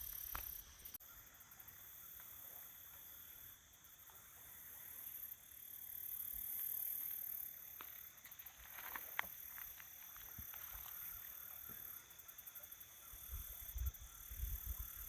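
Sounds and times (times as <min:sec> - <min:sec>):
insects high-pitched tones: 0:00.0 - 0:15.0.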